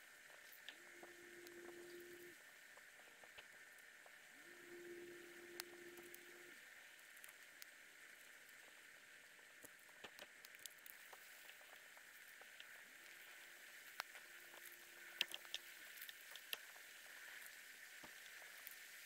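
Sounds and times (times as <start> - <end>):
faint low hum: 0.0 - 18.7
soft hiss: 0.0 - 19.0
light clicks and crackles: 0.2 - 4.3, 5.6 - 19.0.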